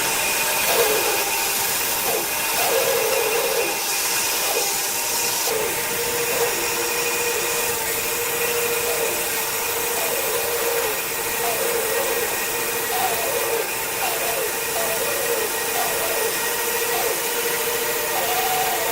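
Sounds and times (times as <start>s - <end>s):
woodworking power tool running: 0.0s - 18.9s.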